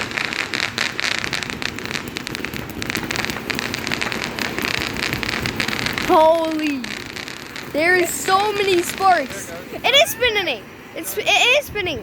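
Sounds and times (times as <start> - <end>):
firework hissing and crackling: 0.0 - 11.9.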